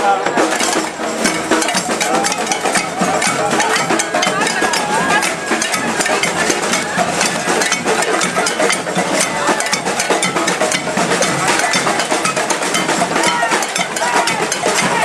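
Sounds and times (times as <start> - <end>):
crowd voices: 0.0 - 15.0
fast continuous drumming: 0.0 - 15.0
hand percussion: 0.0 - 15.0.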